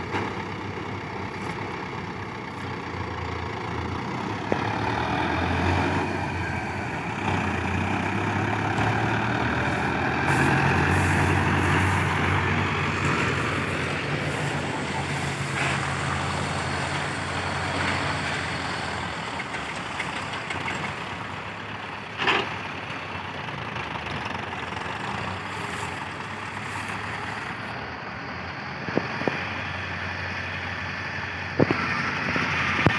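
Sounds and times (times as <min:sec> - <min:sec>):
heavy diesel engine running: 0:00.0 - 0:32.9.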